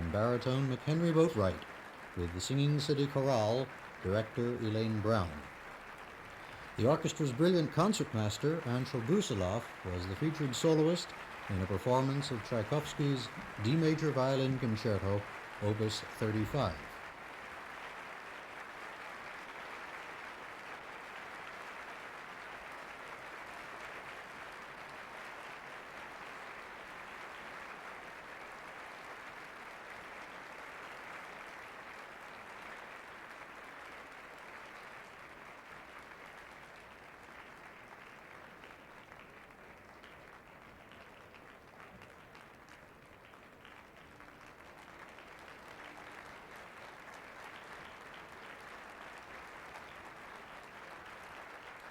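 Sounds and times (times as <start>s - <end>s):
audience applauding: 0.0s - 51.9s.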